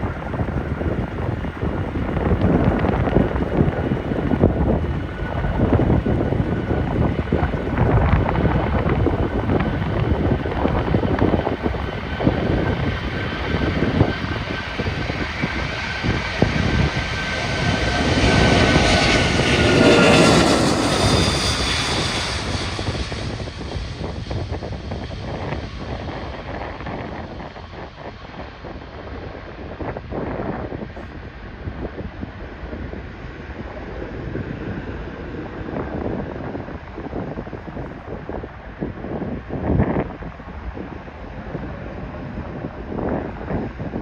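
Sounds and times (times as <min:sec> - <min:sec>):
jet engine roar with whine: 0:00.0 - 0:44.0
wind buffeting microphone: 0:00.0 - 0:44.0.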